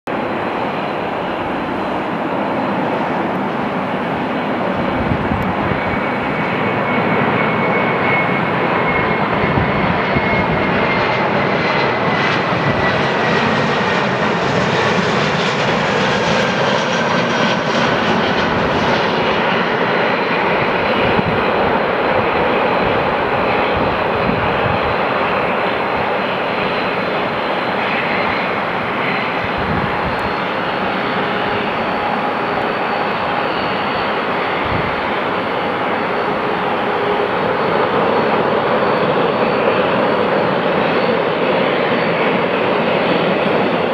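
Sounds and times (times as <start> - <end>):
jet airliner passing: 0.1 - 43.9.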